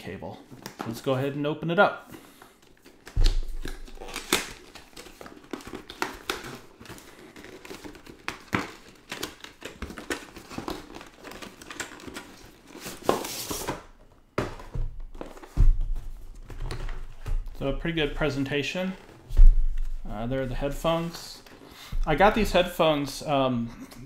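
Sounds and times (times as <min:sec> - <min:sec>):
cardboard packaging rustling: 0:02.2 - 0:23.3.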